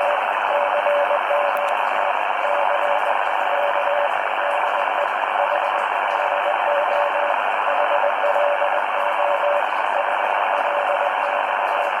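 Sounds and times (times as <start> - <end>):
morse code tone: 0.0 - 11.6
radio band noise hiss: 0.0 - 12.0.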